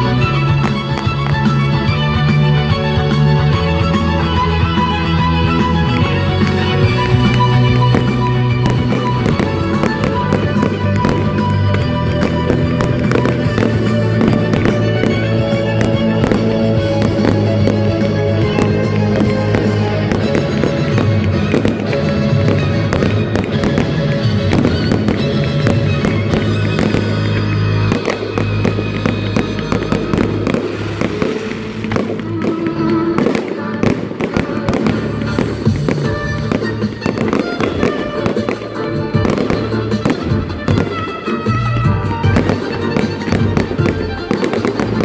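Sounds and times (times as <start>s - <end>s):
fireworks bangs and crackles: 0.0s - 45.0s
violin rock music: 0.0s - 45.0s.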